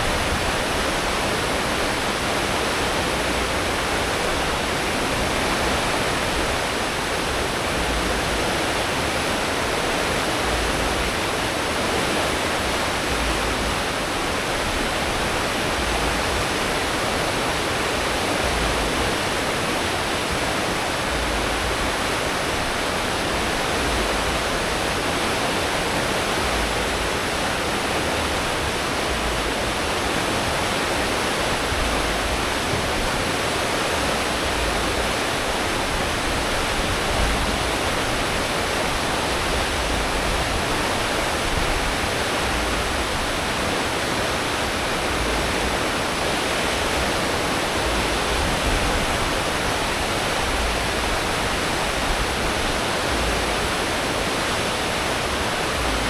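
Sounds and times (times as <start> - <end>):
churning water rushing hiss: 0.0 - 56.0
low rumble of ship engines: 0.0 - 56.0.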